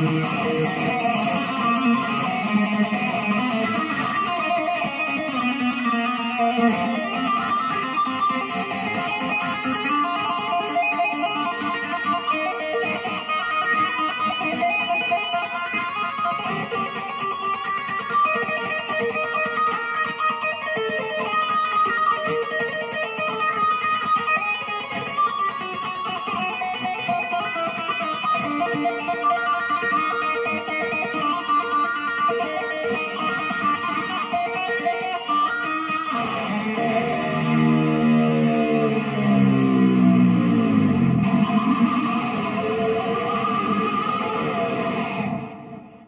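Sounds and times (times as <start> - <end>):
electric guitar plucked notes: 0.0 - 46.0.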